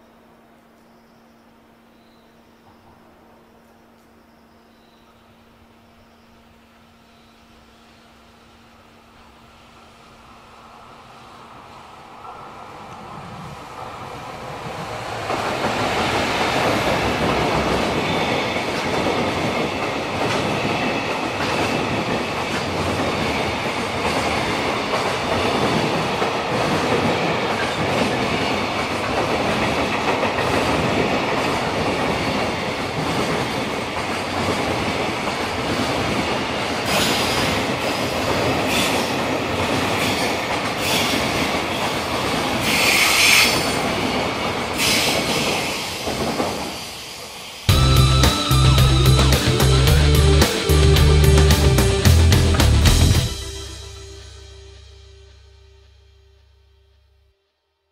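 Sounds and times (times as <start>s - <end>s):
freight train passing: 0.0s - 57.3s.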